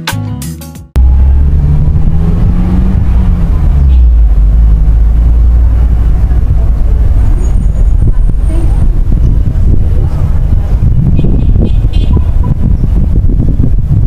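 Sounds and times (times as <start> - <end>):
vehicle engine rumble: 1.0 - 14.0
wind buffeting microphone: 1.0 - 14.0.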